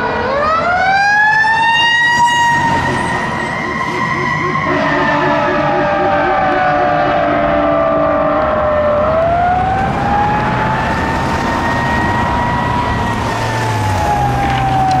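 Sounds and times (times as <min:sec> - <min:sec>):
fire siren wailing: 0:00.0 - 0:15.0
traffic and engine noise: 0:00.0 - 0:15.0.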